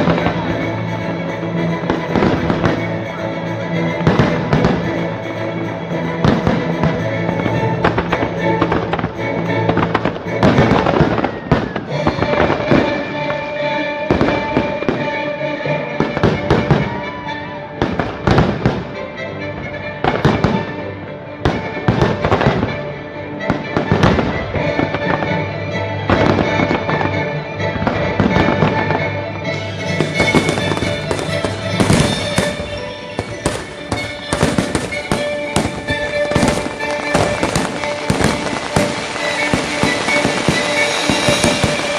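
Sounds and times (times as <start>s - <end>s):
fireworks booming and crackling: 0.0s - 15.2s, 15.9s - 19.0s, 19.6s - 41.9s
music soundtrack: 0.0s - 41.9s.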